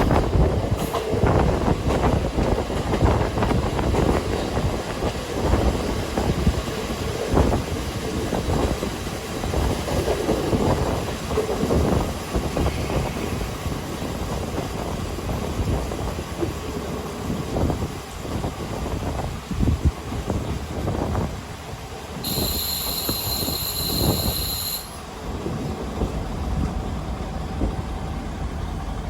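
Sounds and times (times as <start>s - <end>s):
diesel railcar rumbling: 0.0s - 29.0s.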